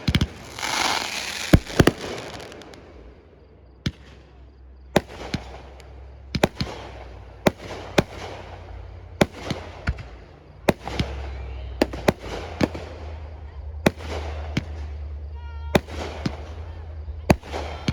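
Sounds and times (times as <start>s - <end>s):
fireworks bangs: 0.0s - 17.9s
fireworks crackling: 0.0s - 17.9s.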